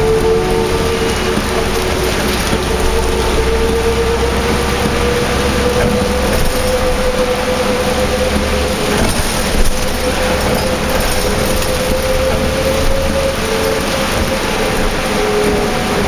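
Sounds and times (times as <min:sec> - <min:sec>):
bus drivetrain whine: 0:00.0 - 0:16.0
road and rain hiss: 0:00.0 - 0:16.0.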